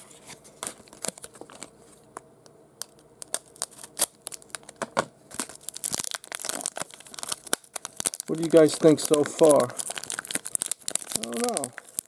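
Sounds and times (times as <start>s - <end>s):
plastic wrapper tearing and crinkling: 0.0s - 1.8s, 2.8s - 12.0s.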